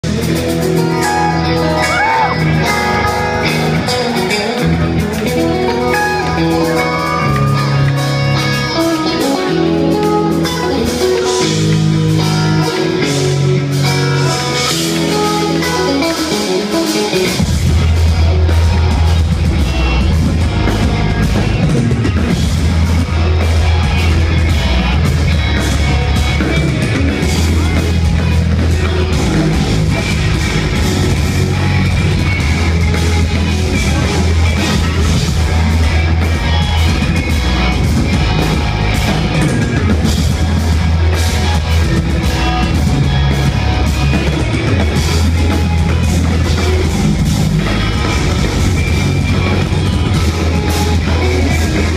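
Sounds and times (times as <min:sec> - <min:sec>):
live metal band playing: 0:00.0 - 0:51.9
ringing melodic guitar notes: 0:00.0 - 0:51.9.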